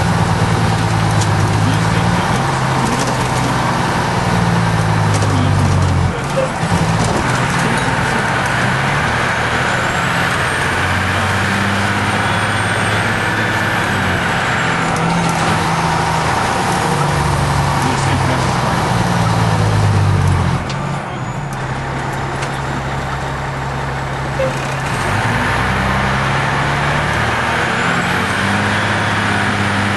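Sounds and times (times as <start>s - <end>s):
fire engine diesel engine running: 0.0s - 29.9s.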